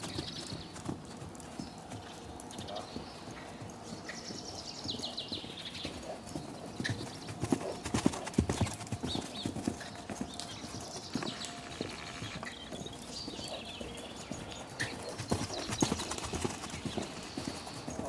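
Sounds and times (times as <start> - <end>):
horse hoofbeats cantering on sand: 0.0 - 18.0.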